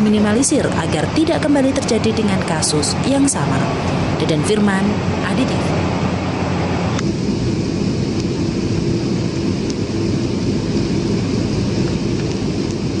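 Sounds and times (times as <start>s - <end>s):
cabin hum: 0.0s - 13.0s
jet engines and airflow rumble: 0.0s - 13.0s.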